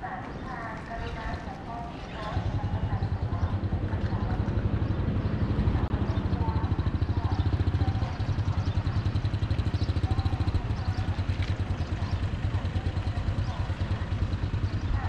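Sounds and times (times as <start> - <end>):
motorcycle engine idling: 0.8 - 15.0.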